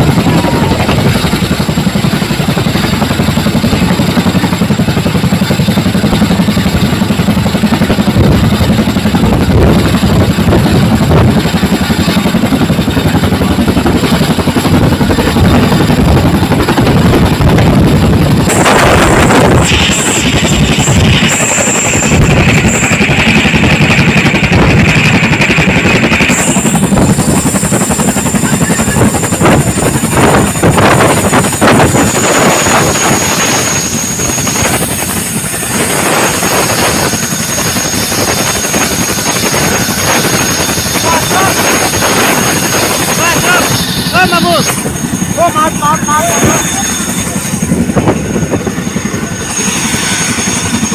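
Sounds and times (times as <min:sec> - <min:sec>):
helicopter rotors beating: 0:00.0 - 0:50.9
steady high whine: 0:00.0 - 0:50.9.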